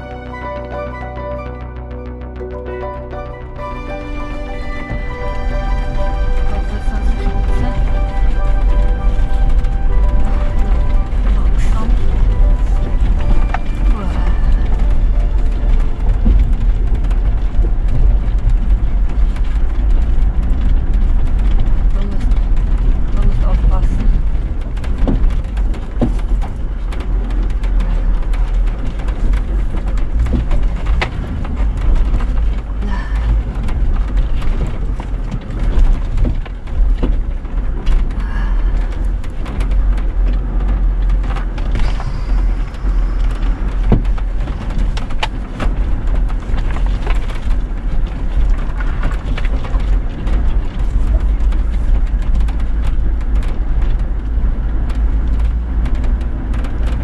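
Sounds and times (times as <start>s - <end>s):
vehicle engine and tyre noise: 0.0s - 57.0s
vehicle knocks and rattles: 6.6s - 57.0s.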